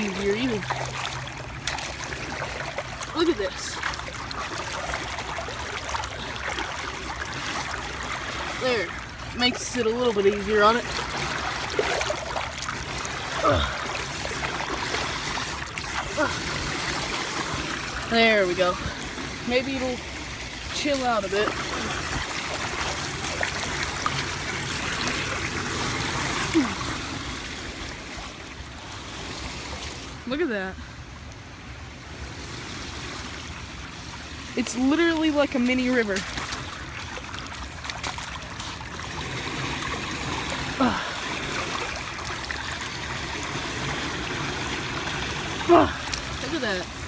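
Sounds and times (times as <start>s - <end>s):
floodwater running into storm drain: 0.0s - 47.0s.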